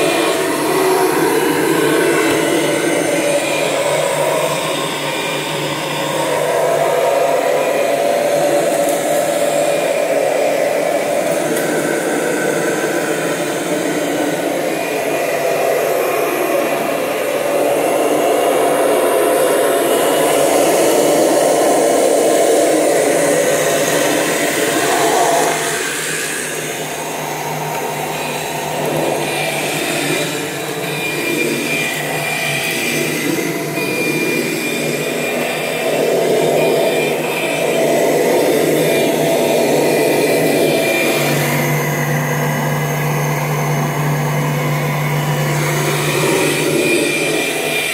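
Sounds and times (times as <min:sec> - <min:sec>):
upright vacuum cleaner running: 0:00.0 - 0:47.9.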